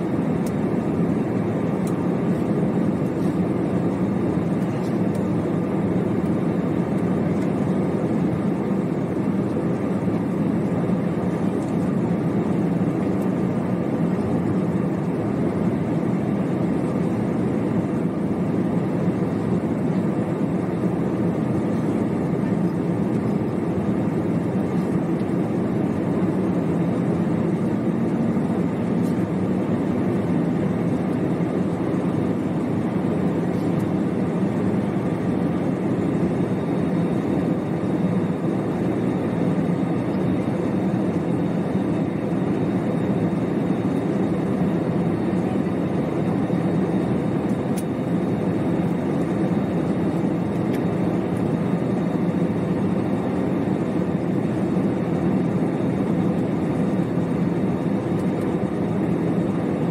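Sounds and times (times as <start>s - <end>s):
jet engine drone: 0.0s - 59.9s.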